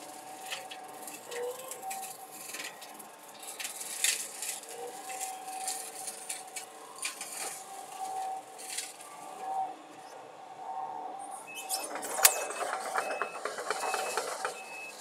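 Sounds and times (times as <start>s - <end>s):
excavator whine: 0.0s - 15.0s.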